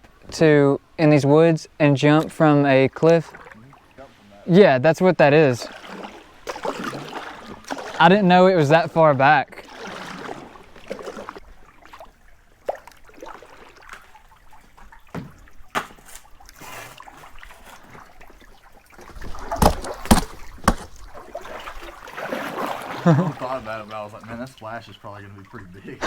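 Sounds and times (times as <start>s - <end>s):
paddle strokes: 0.0s - 26.0s
water trickling and dripping: 0.0s - 26.0s.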